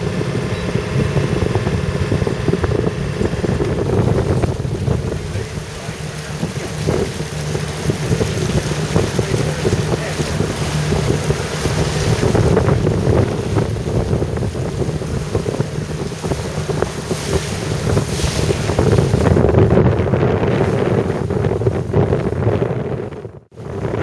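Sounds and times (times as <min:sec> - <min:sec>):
water rushing past hull: 0:00.0 - 0:24.0
wind buffeting microphone: 0:00.0 - 0:24.0.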